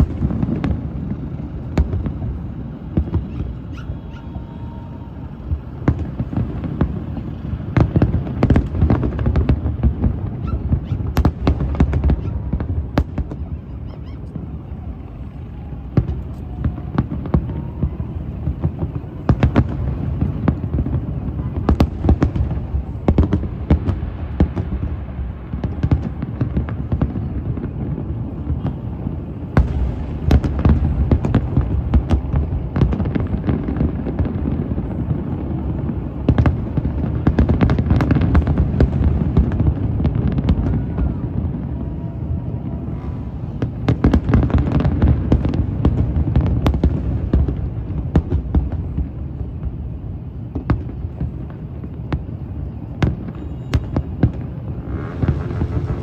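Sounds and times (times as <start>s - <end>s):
fireworks booms and crackling bangs: 0.0s - 56.0s.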